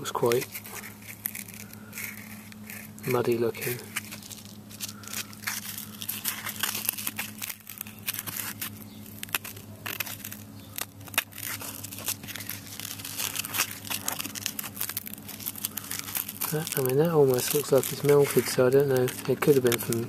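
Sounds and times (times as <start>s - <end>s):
fingers rustling fibrous pad: 0.0s - 20.0s
steady low hum: 0.0s - 20.0s.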